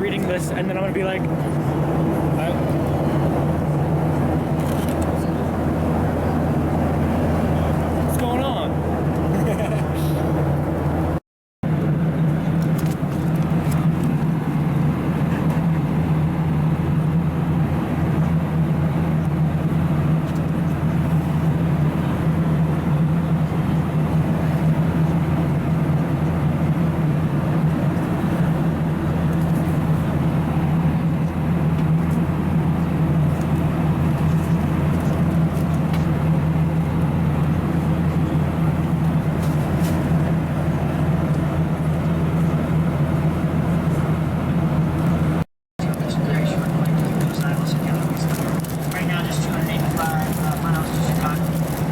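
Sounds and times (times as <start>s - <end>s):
airplane cabin engine drone: 0.0s - 51.9s.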